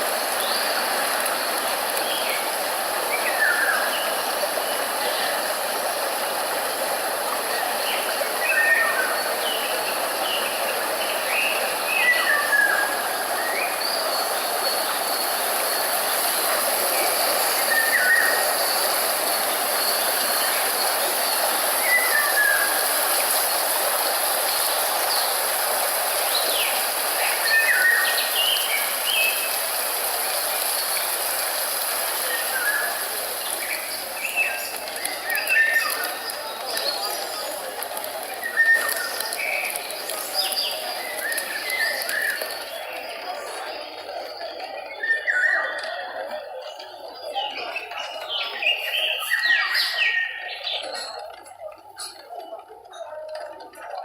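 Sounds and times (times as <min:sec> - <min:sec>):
rushing background noise: 0:00.0 - 0:54.0
wild birds chirping: 0:00.1 - 0:51.2.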